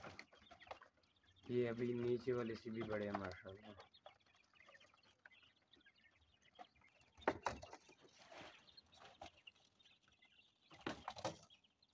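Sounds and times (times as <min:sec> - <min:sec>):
quail scuffling on newspaper: 0:00.0 - 0:11.9.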